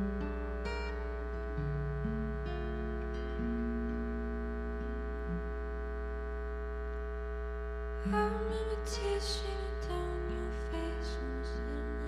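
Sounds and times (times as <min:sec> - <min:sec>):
slow soft guitar song: 0:00.0 - 0:06.9, 0:07.9 - 0:12.0
low electrical hum: 0:00.0 - 0:12.0.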